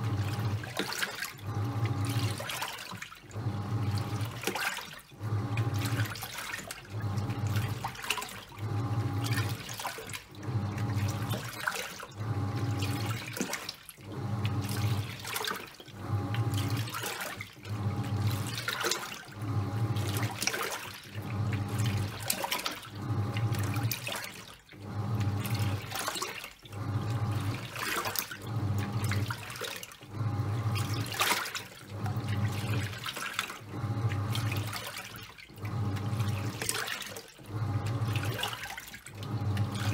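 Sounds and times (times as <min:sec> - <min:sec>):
washing machine motor humming: 0:00.0 - 0:39.9
water sloshing and churning: 0:00.0 - 0:39.9.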